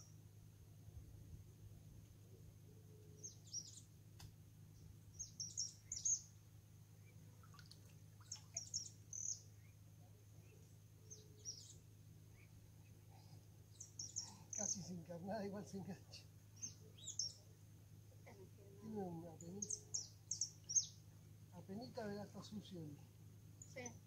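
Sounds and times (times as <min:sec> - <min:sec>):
small birds chirping: 0:02.4 - 0:24.0.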